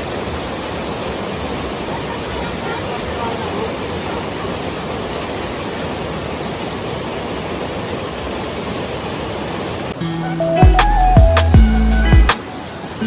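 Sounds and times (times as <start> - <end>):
fast water rushing: 0.0 - 13.0.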